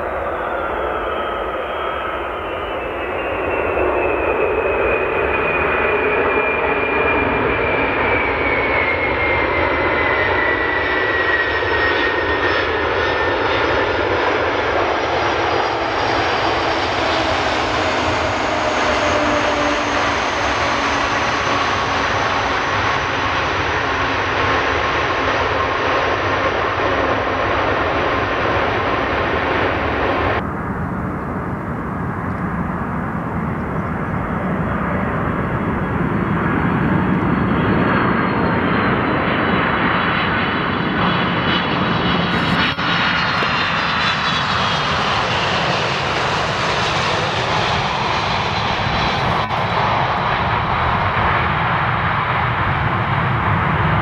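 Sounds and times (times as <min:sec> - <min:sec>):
jet engine whine falling: 0:00.0 - 0:54.0
jet engines roaring: 0:00.0 - 0:54.0.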